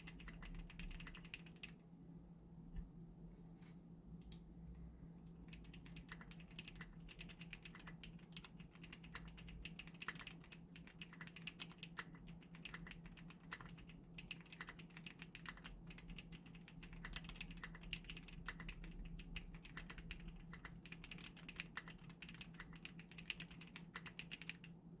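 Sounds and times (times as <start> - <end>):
fast typing on mechanical keyboard: 0.0 - 1.8, 5.4 - 24.8.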